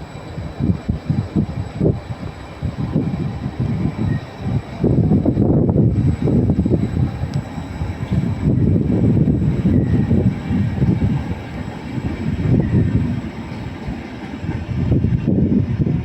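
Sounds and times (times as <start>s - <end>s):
train passing rumble: 0.0s - 16.0s.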